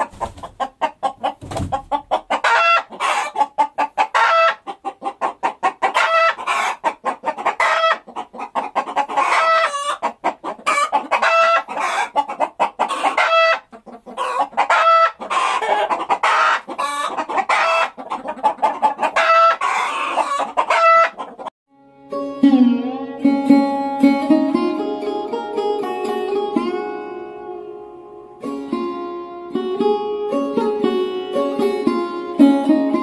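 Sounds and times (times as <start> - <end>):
chickens clucking and cackling: 0.0 - 21.5, 23.0 - 33.0.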